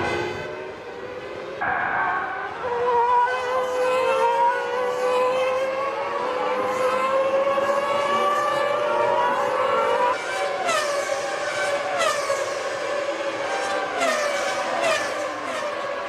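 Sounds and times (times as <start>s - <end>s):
racing car engines at high revs: 0.0s - 16.0s.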